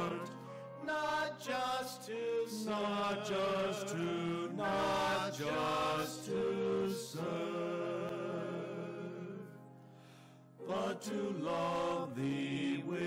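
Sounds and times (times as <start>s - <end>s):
men's choir singing a hymn: 0.0s - 9.6s, 10.6s - 13.0s
piano accompaniment: 0.0s - 13.0s.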